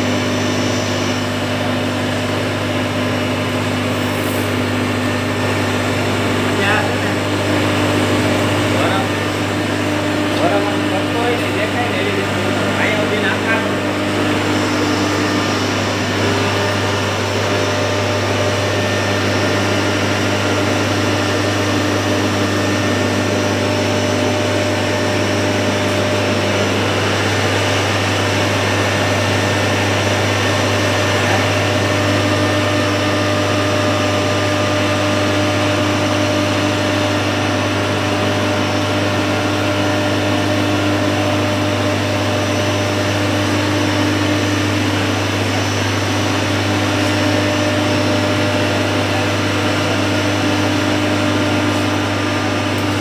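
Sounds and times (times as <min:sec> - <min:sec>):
grinding machine whirring: 0:00.0 - 0:53.0
low motor hum: 0:00.0 - 0:53.0.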